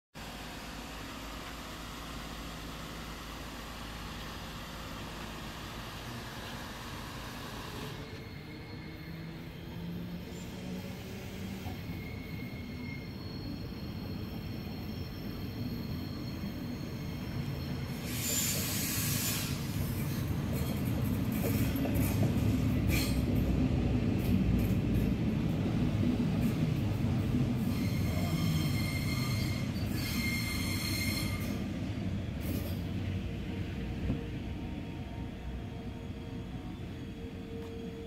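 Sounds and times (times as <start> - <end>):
electric train approaching: 0.2 - 38.0.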